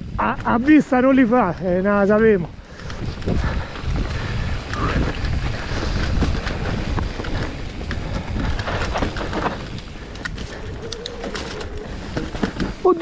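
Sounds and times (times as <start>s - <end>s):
steady low rumble: 0.0s - 12.8s
bike rattling and clicking: 0.0s - 13.0s
bike tyres rolling over leaves: 0.0s - 13.0s.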